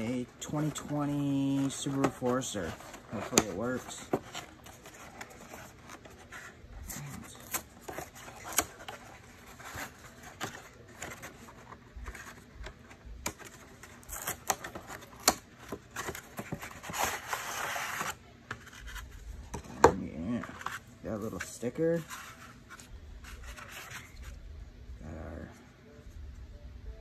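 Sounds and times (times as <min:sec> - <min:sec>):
cardboard rubbing and scraping: 0:00.0 - 0:24.4.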